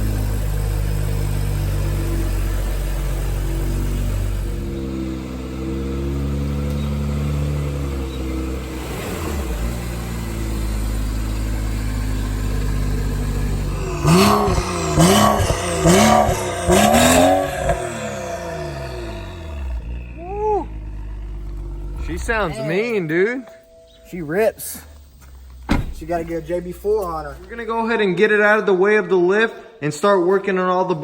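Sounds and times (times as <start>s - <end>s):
car engine idling and revving: 0.0s - 23.0s, 24.1s - 27.7s.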